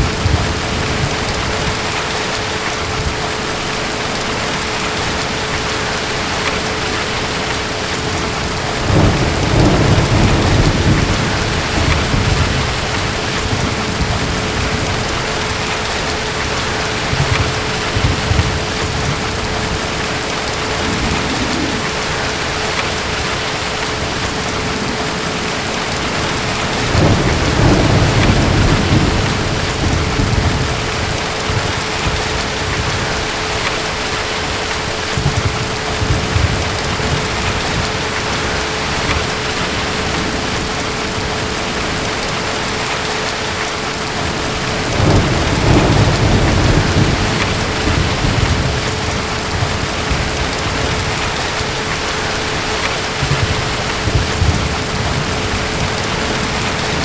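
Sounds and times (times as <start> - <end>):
distant thunder rumbling: 0.0 - 57.0
heavy rain: 0.0 - 57.0.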